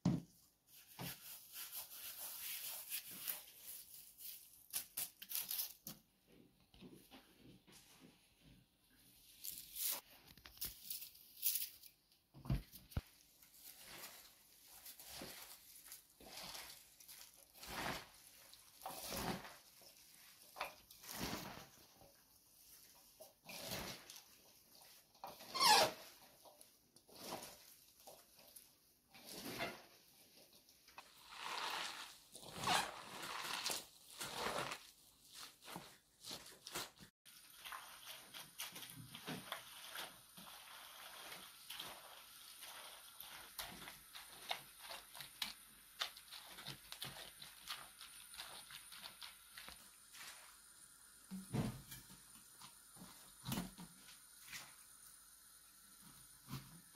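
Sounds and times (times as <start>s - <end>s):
vegetables rustling in a bowl: 0.7s - 6.1s, 9.1s - 12.0s, 12.6s - 51.4s.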